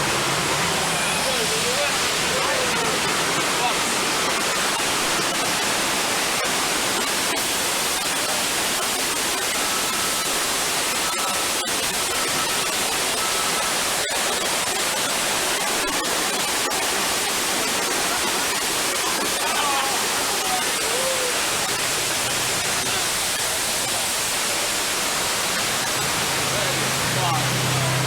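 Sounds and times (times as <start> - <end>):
water rushing and cascading: 0.0 - 28.0.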